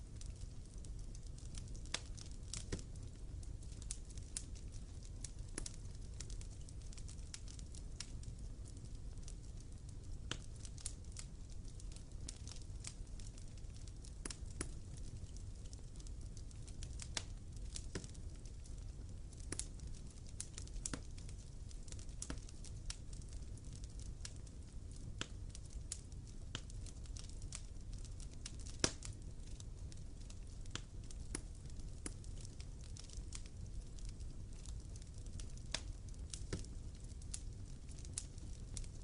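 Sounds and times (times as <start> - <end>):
low rumble of flames: 0.0 - 39.0
wood fire crackling and popping: 0.0 - 39.0.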